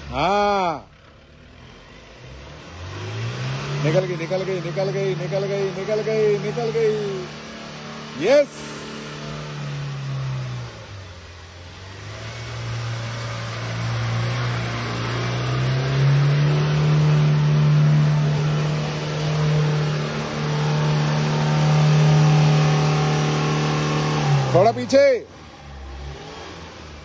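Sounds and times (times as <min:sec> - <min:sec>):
engine revving under load: 0:00.0 - 0:27.0.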